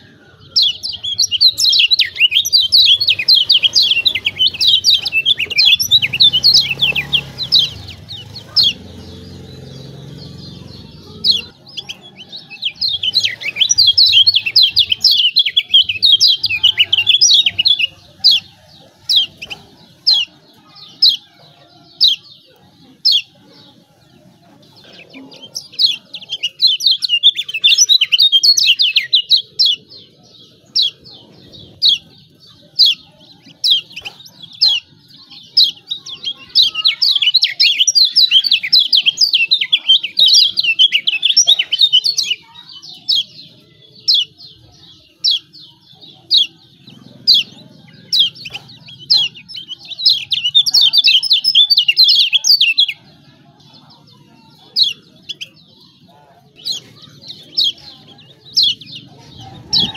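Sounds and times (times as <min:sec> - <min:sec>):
bird chattering calls: 0:00.0 - 0:59.9.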